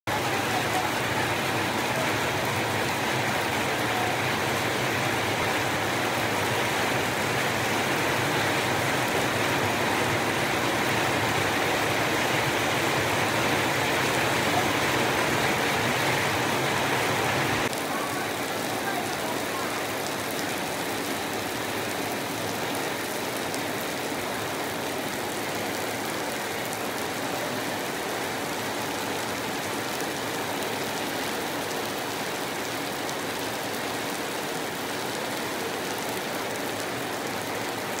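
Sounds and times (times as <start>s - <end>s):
rain on concrete: 0.1s - 38.0s.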